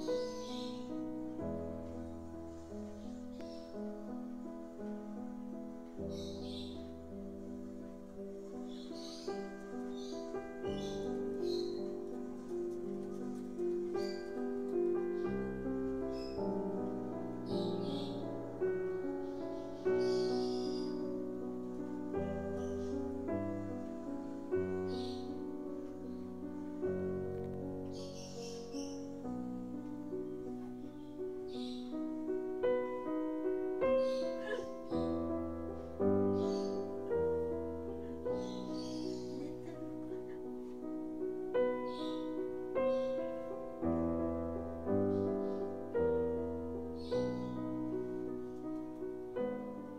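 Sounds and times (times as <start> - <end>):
slow gentle piano music: 0.0 - 49.9.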